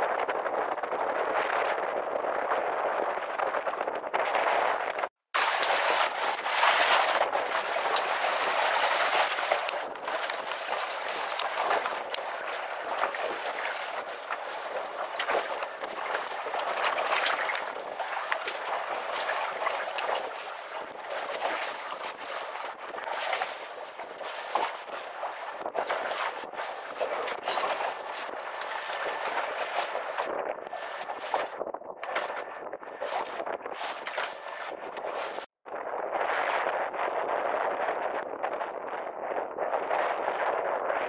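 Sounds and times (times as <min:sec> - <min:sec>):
wind buffeting microphone: 0:00.0 - 0:41.0
choppy waves splashing: 0:00.4 - 0:35.5.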